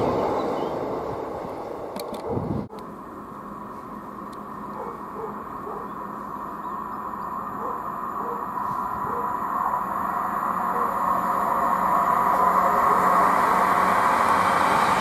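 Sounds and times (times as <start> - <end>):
distant diesel train running: 0.0 - 15.0.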